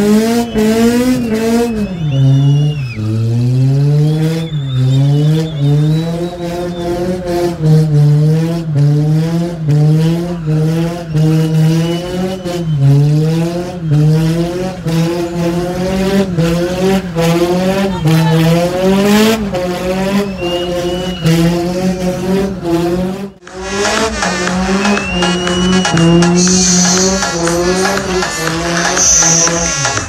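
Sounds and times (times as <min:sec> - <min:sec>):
tire squeals: 0:00.0 - 0:08.4, 0:09.0 - 0:30.0
car engine revving hard: 0:00.0 - 0:30.0.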